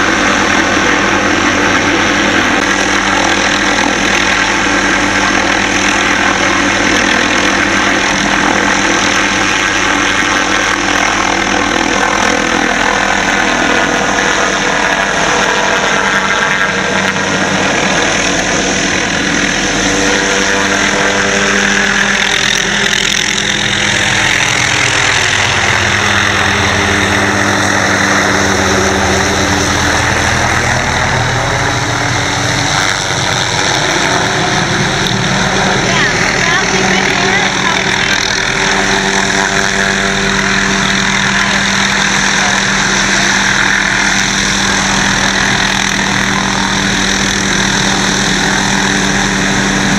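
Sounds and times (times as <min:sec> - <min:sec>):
helicopter hovering drone: 0:00.0 - 0:49.9.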